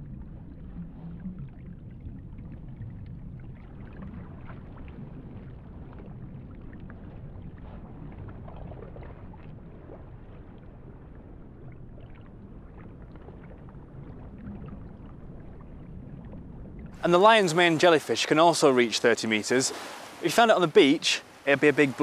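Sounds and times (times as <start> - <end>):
underwater water wash: 0.0 - 22.0.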